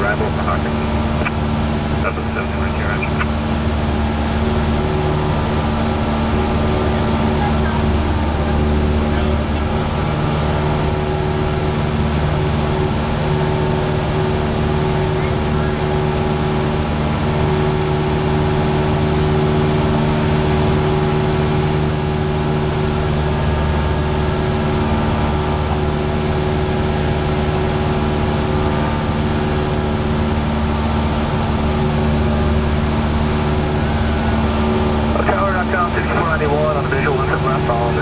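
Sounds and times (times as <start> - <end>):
airplane engine and propeller droning: 0.0 - 38.0.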